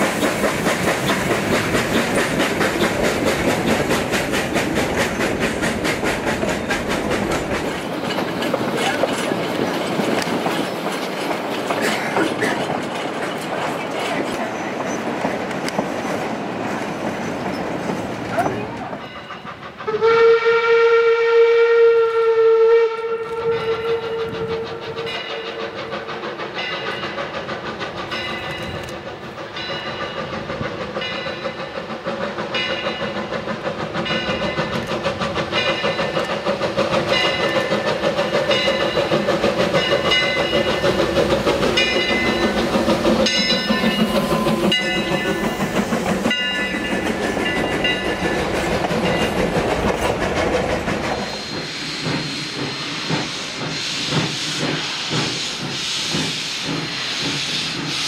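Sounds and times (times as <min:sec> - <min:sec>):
steam hissing: 0:00.0 - 0:20.3, 0:23.5 - 0:58.0
steam locomotive exhaust beat: 0:00.0 - 0:58.0.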